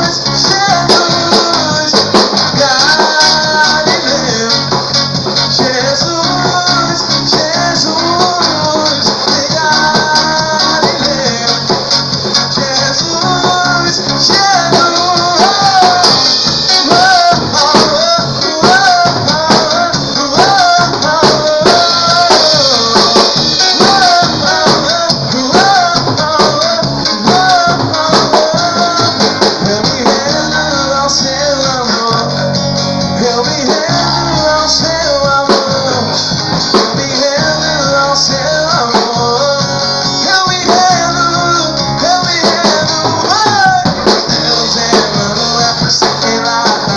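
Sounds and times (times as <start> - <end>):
band playing worship song: 0.0 - 46.9.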